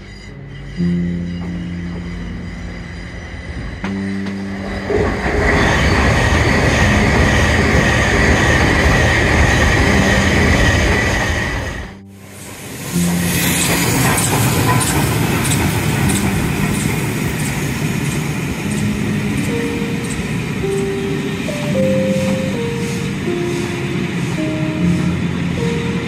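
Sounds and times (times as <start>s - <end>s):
background music: 0.0s - 26.0s
high-pitched squeal: 0.0s - 26.0s
passenger train passing: 0.0s - 26.0s.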